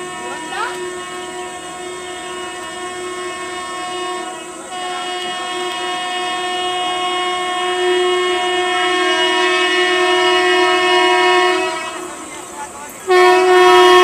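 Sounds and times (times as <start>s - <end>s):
train horn blast: 0.0s - 14.0s.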